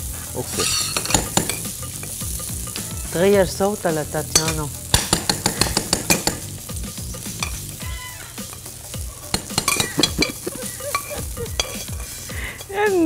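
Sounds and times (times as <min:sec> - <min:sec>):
shrimp sizzling in frying pan: 0:00.0 - 0:13.0
metal tongs scraping pan: 0:00.4 - 0:03.3, 0:04.2 - 0:13.0.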